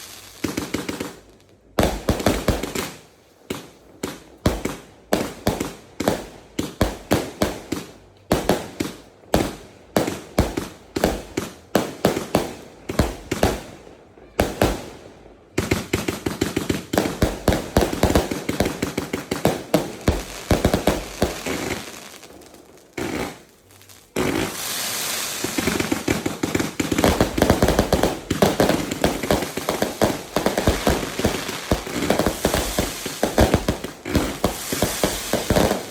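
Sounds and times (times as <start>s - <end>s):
fireworks banging and crackling: 0.0s - 35.9s.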